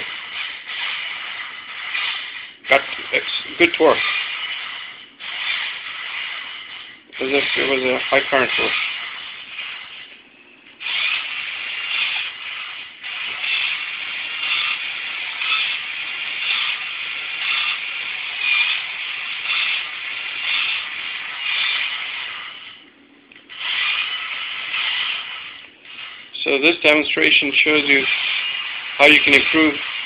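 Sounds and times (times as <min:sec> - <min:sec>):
small motor whirring: 0:00.0 - 0:02.6, 0:03.8 - 0:10.2, 0:10.8 - 0:22.8, 0:23.5 - 0:26.4, 0:27.8 - 0:30.0.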